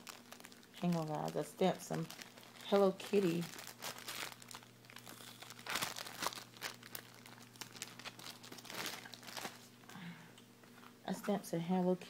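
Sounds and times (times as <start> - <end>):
paper rustling and crinkling: 0.0 - 9.7.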